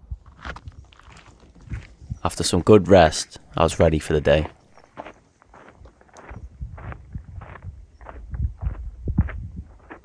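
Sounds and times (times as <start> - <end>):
footsteps crunching on gravel: 0.2 - 10.0.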